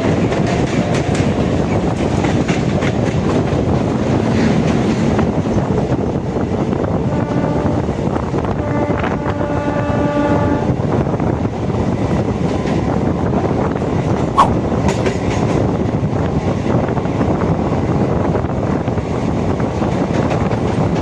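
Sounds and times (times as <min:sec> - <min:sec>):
train coaches rumbling past: 0:00.0 - 0:21.0.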